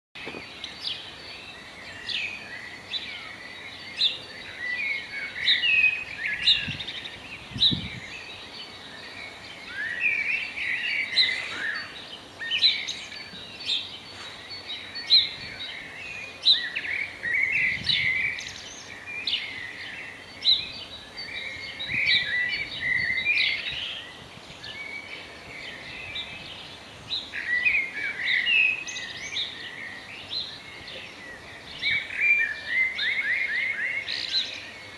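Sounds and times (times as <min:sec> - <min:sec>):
faint background noise: 0:00.2 - 0:34.9
songbirds chirping and trilling: 0:00.2 - 0:34.9.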